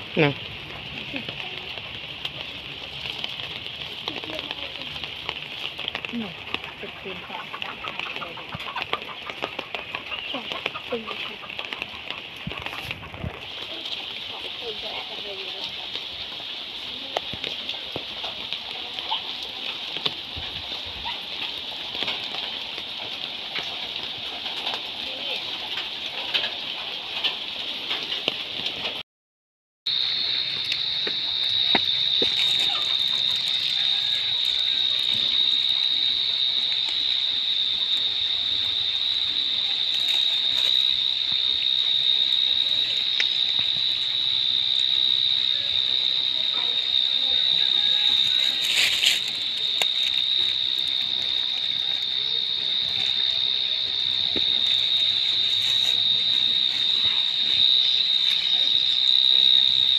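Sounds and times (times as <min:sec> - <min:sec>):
insects trilling: 0:00.0 - 0:28.6, 0:29.9 - 0:59.9.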